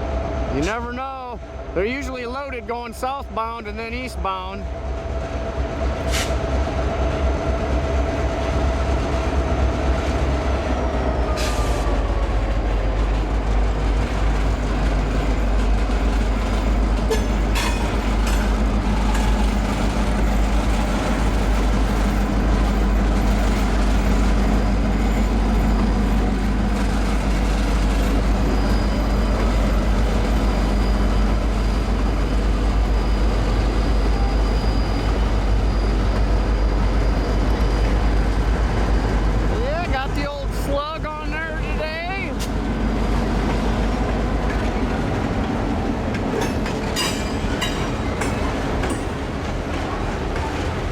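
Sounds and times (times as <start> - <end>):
rail cars rumbling over track: 0.0 - 50.9.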